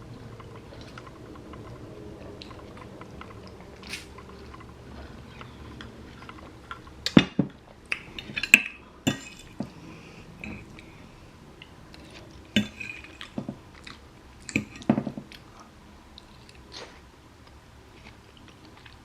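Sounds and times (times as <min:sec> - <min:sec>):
person chewing: 0:00.0 - 0:19.0.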